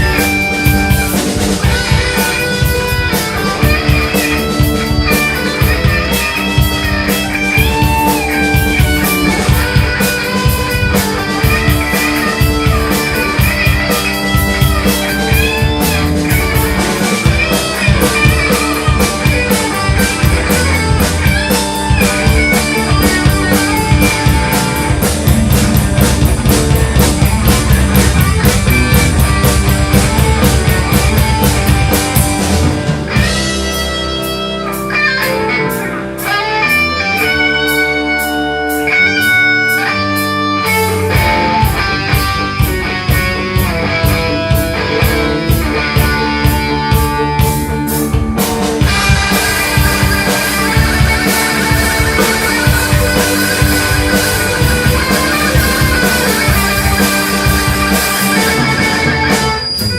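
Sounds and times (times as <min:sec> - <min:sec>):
guitar melody with bending notes: 0:00.0 - 0:59.9
rock band playing: 0:00.0 - 0:59.9.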